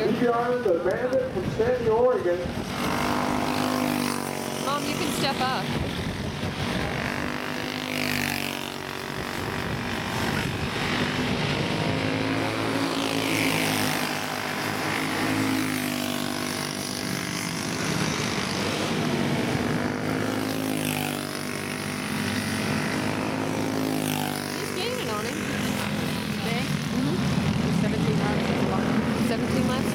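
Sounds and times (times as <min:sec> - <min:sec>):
racing kart engines: 0:00.0 - 0:29.9.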